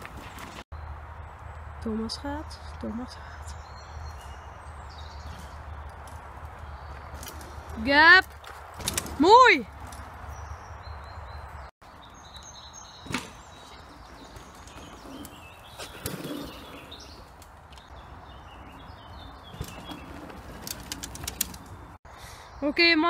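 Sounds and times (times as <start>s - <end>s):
songbirds chirping faintly: 0.0s - 23.0s.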